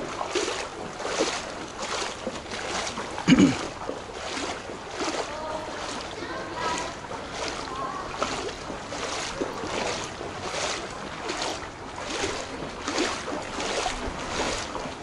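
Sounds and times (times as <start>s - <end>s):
feet wading through water: 0.0s - 15.0s.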